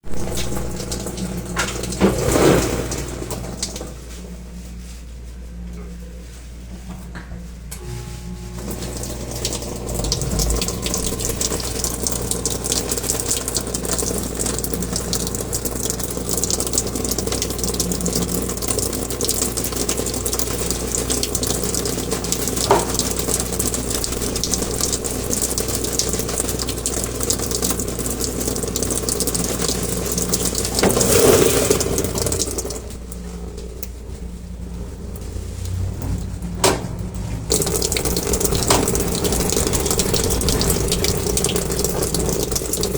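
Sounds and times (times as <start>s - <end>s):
water rushing in: 0.0s - 4.0s, 8.5s - 33.0s, 35.3s - 42.9s
washing machine running: 0.0s - 42.9s.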